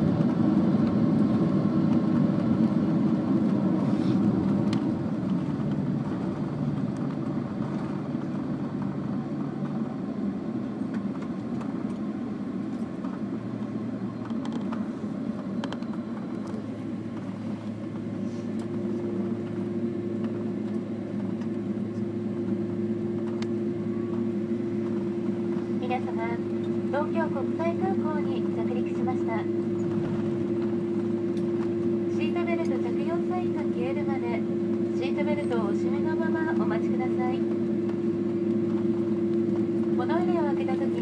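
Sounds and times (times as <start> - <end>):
jet engines rumbling: 0.0 - 41.0
low hum: 0.0 - 41.0.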